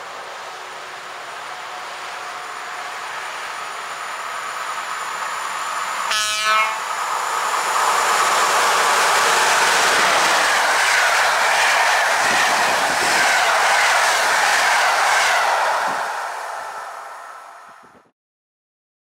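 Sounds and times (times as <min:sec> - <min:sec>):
train rushing past: 0:00.0 - 0:18.1.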